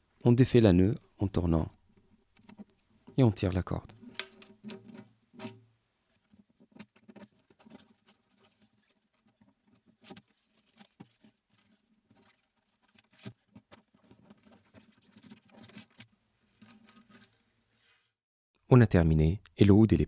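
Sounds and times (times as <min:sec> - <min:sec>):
fingers rustling strings: 0:01.9 - 0:18.2.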